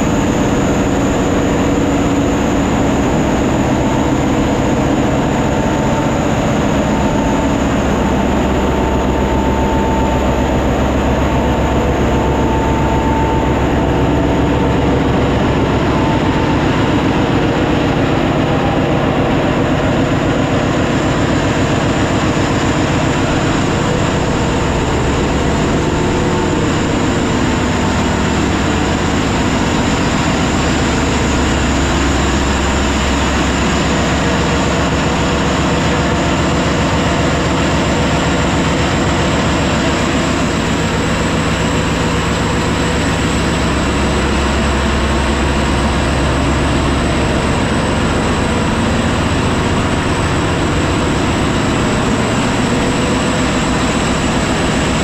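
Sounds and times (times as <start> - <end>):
diesel engine drone: 0.0 - 55.0
high machinery whine: 0.0 - 55.0.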